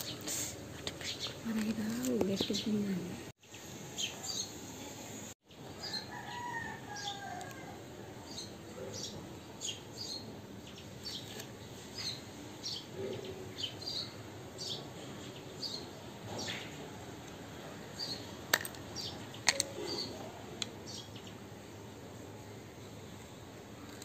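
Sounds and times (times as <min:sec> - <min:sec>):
small birds chirping: 0:00.0 - 0:16.9, 0:17.9 - 0:21.6.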